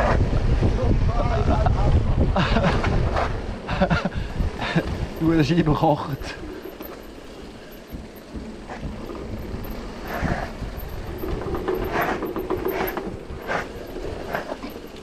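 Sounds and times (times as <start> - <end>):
mountain bike rattling on trail: 2.6 - 15.0.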